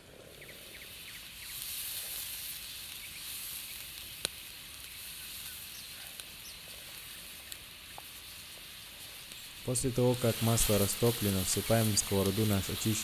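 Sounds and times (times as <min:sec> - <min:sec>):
butter sizzling in frying pan: 0:01.0 - 0:13.0.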